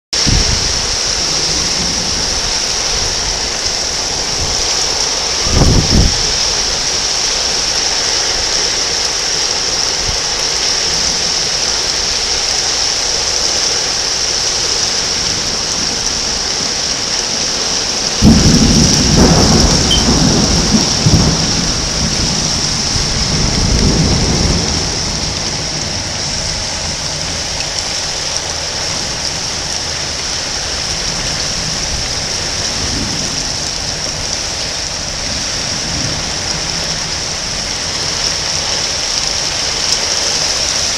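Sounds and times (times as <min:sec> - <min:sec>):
steady rain hissing: 0:00.2 - 0:40.9
thunder rumbling: 0:00.2 - 0:40.9.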